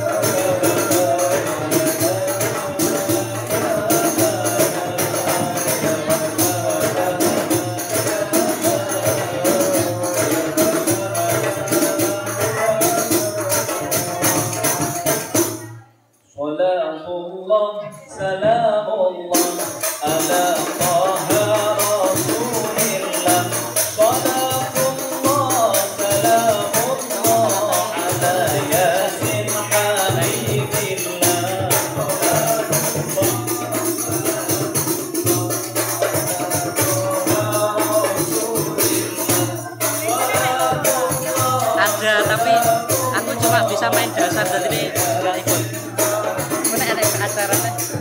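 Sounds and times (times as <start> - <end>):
frame drums playing rapid strokes: 0.0 - 15.7, 19.4 - 48.0
person singing into a microphone: 0.0 - 15.8, 16.4 - 48.0.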